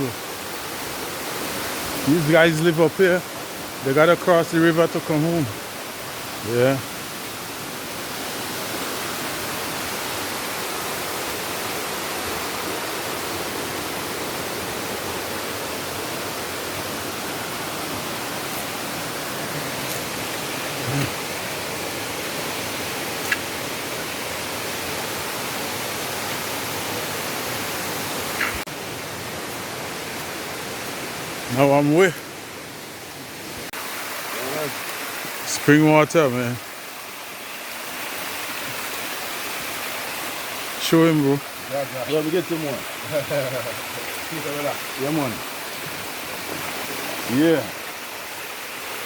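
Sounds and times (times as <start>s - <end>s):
river water rushing: 0.0s - 49.0s.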